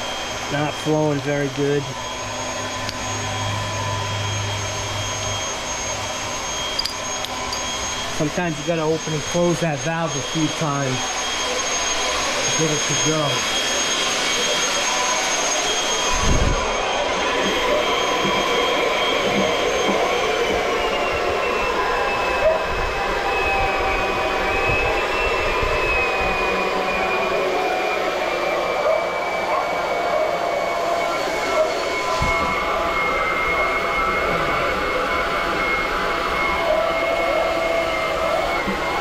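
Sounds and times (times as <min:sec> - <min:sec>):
small electric pump whining: 0:00.0 - 0:39.0.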